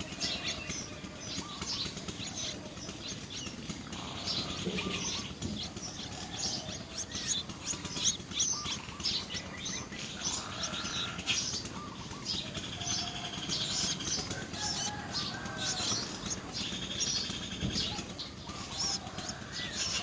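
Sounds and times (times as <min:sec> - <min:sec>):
lower warbling bird calls: 0:00.0 - 0:20.0
small birds chirping: 0:00.0 - 0:20.0.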